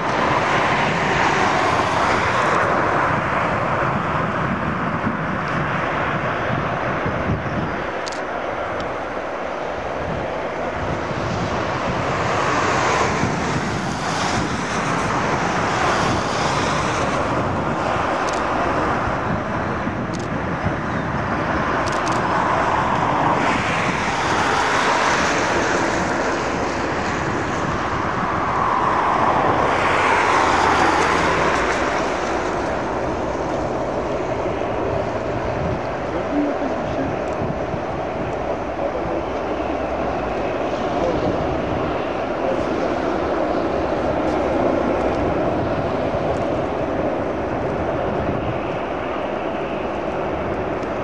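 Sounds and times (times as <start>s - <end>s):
jet engines at taxi power: 0.0s - 51.0s
wind on microphone: 0.0s - 51.0s.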